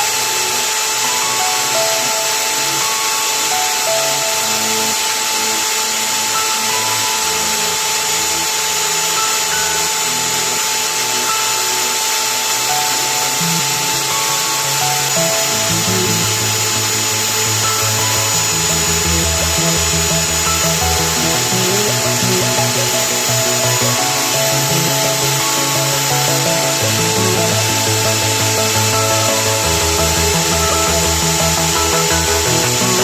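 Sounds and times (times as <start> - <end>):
background music: 0.0 - 33.0
electric drill motor whine: 0.0 - 33.0.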